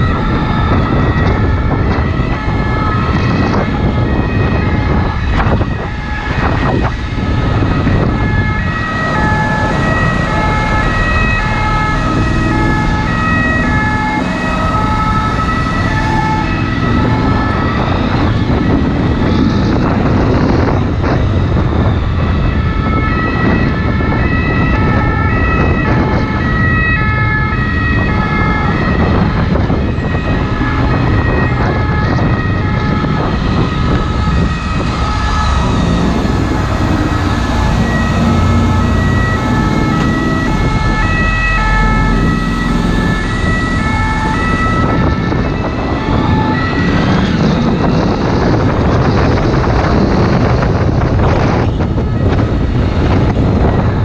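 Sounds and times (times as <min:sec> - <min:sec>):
two-tone ambulance siren: 0:00.0 - 0:54.0
wind rushing: 0:00.0 - 0:54.0.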